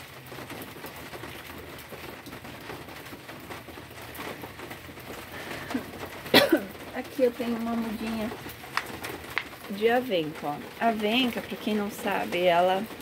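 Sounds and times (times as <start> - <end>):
rain dripping on foliage: 0.0 - 13.0.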